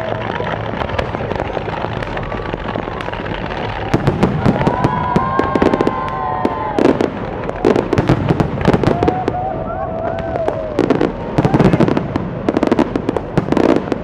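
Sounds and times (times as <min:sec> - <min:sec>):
fireworks rumbling: 0:00.0 - 0:14.0.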